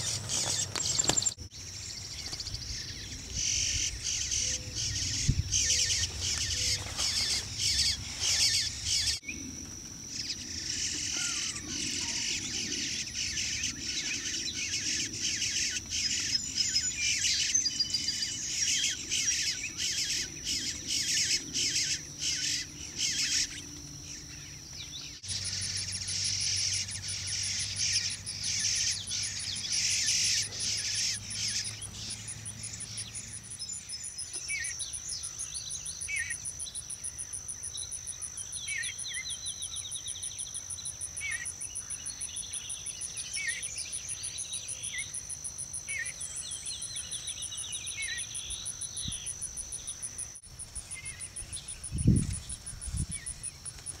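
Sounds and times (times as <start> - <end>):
high insect trill: 0.0 - 54.0
small birds chirping: 0.0 - 54.0.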